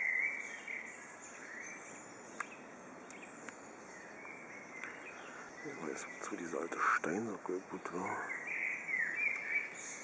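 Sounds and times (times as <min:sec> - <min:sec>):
birds singing: 0:00.0 - 0:10.0
whistled bird calls: 0:00.0 - 0:10.0.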